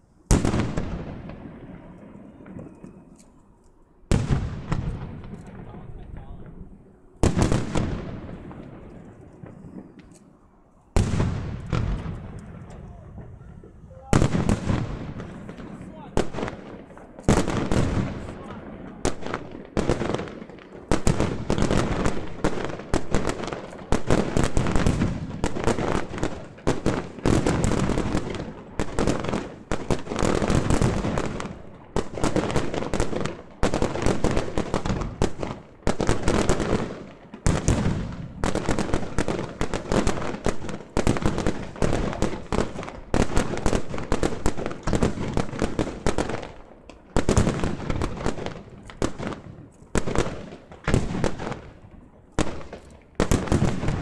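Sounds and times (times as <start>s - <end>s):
fireworks bangs and crackling: 0.0s - 3.2s, 4.0s - 54.0s.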